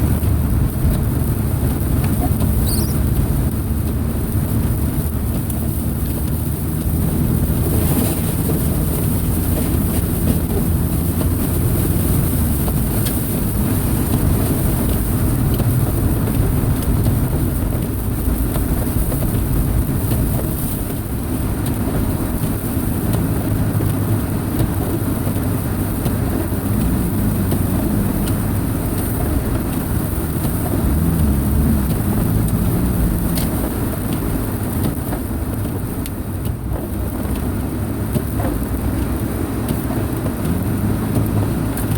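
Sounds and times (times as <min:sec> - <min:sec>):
car engine running: 0:00.0 - 0:41.9
road noise: 0:00.0 - 0:41.9.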